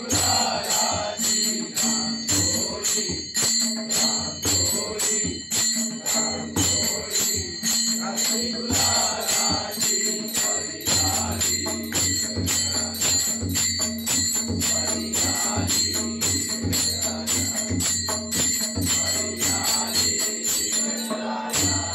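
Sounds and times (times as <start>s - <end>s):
hand cymbals struck in rhythm: 0.0s - 21.9s.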